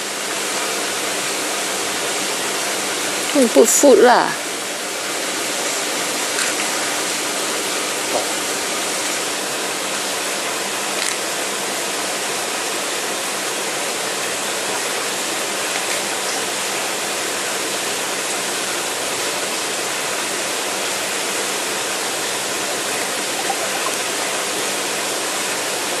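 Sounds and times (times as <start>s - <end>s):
aquarium water flowing and splashing: 0.0s - 26.0s.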